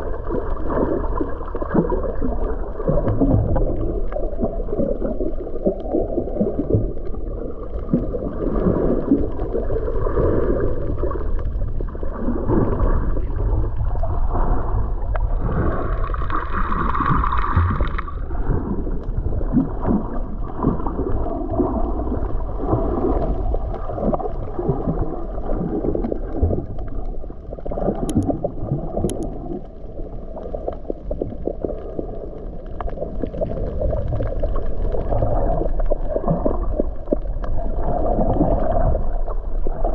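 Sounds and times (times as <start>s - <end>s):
underwater sloshing and bubbling: 0.0s - 39.9s.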